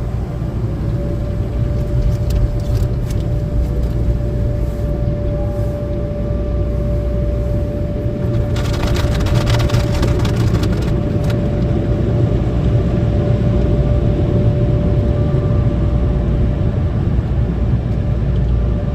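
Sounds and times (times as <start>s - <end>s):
car wash machinery rumble: 0.0s - 18.9s
constant whine: 0.0s - 18.9s.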